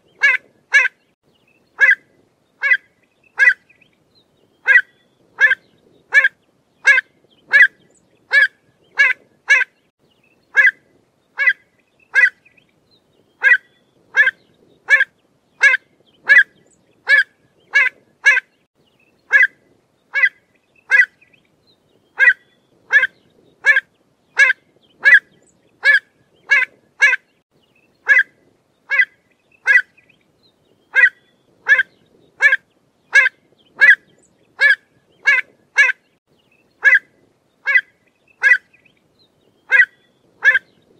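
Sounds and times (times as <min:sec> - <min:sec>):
bird calling: 0:00.0 - 0:01.1, 0:01.8 - 0:03.9, 0:04.5 - 0:09.9, 0:10.5 - 0:10.8, 0:11.4 - 0:18.7, 0:19.3 - 0:21.4, 0:22.0 - 0:27.4, 0:28.0 - 0:28.3, 0:28.9 - 0:30.2, 0:30.8 - 0:36.2, 0:36.8 - 0:40.9.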